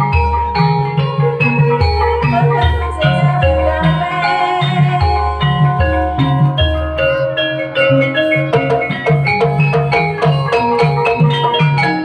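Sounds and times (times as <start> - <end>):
gamelan metallophone melody: 0.0 - 12.0.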